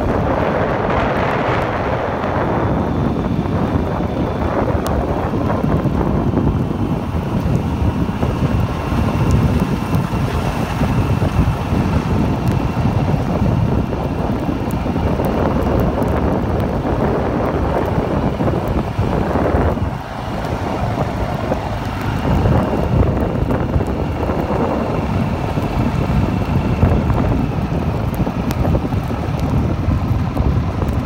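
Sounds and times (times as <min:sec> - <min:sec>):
wind blowing across microphone: 0:00.0 - 0:31.0.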